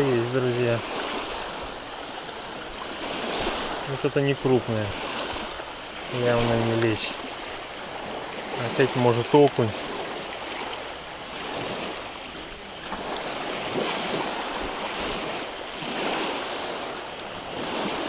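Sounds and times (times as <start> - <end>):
rush of wind and water: 0.0 - 18.0.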